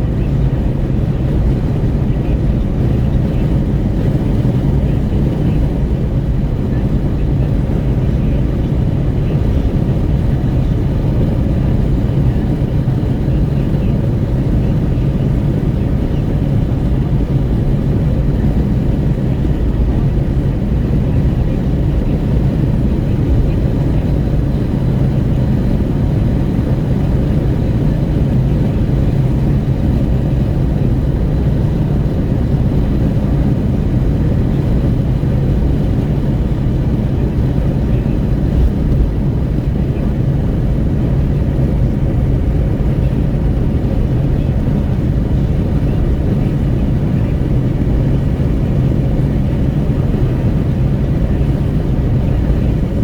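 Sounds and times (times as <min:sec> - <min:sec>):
wind buffeting at car window: 0:00.0 - 0:53.0.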